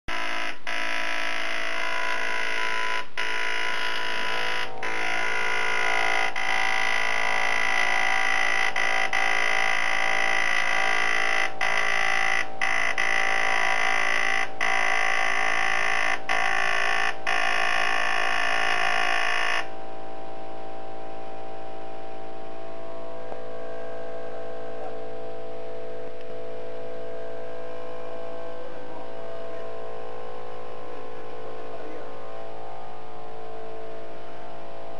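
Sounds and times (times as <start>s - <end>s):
marking machine buzzing: 0.0s - 34.9s
steady hum: 0.1s - 34.9s.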